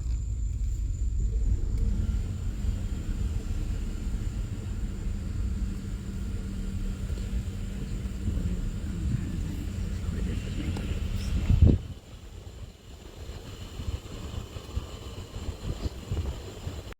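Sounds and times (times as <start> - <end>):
steady hum: 0.0 - 16.9
vehicle engine rumble: 0.0 - 16.9.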